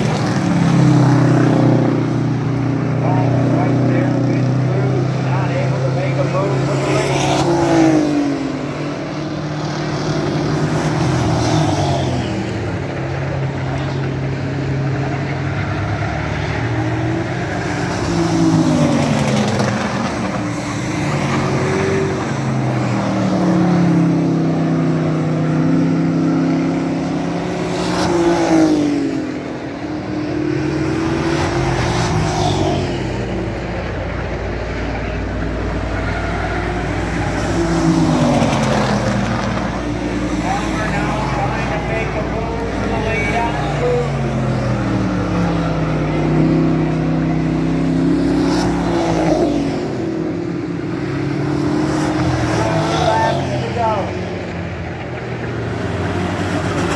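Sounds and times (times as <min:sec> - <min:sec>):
race truck engines passing: 0:00.0 - 0:56.9.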